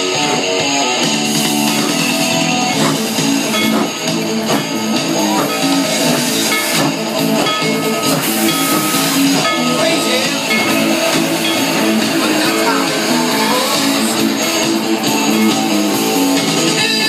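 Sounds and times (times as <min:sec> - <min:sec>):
loud music with guitar: 0:00.0 - 0:17.0.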